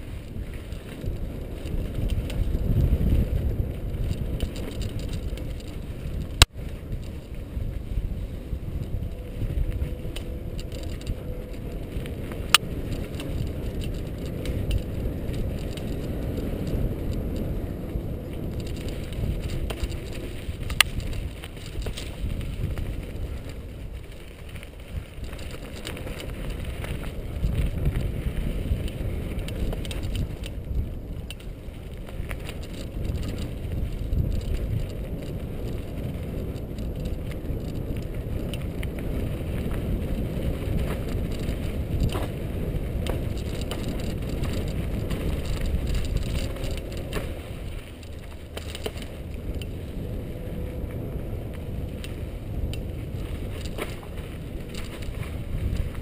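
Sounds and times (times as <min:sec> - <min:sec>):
bike rattling over bumps: 0:00.0 - 0:56.0
tyres rumbling on dirt: 0:00.0 - 0:56.0.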